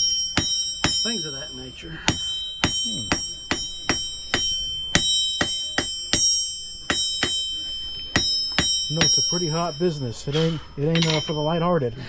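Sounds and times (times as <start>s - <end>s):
hammer striking iron on anvil: 0.0s - 11.7s.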